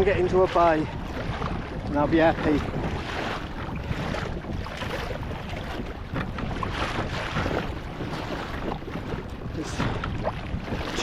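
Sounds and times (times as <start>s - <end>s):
choppy water sloshing and splashing: 0.0s - 11.0s
wind rumbling on microphone: 0.0s - 11.0s.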